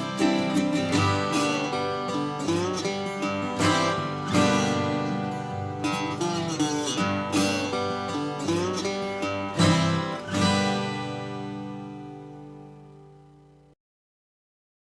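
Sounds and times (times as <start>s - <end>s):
acoustic guitar strumming and plucking: 0.0s - 13.7s.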